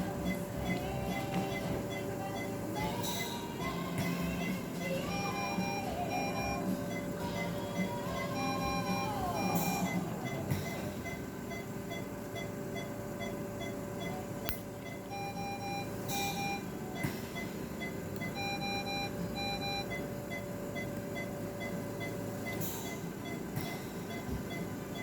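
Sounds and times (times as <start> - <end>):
longer alarm tones: 0.0 - 25.0
patient monitor beeping: 0.0 - 25.0
steady hum: 0.0 - 25.0.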